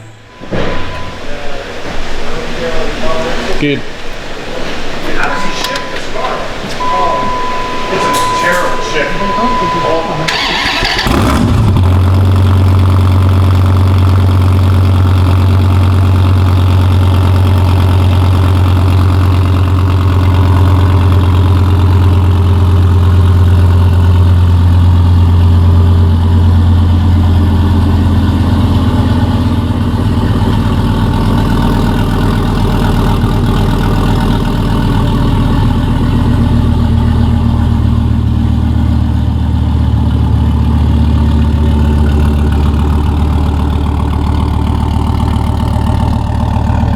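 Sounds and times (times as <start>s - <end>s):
car engine starting and idling: 0.0s - 46.9s.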